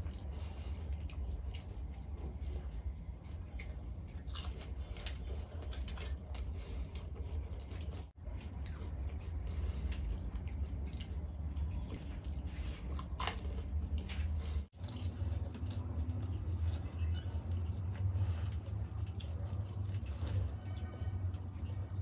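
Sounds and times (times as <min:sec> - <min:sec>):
crunchy wet chewing: 0:00.0 - 0:22.0
steady low hum: 0:00.0 - 0:22.0.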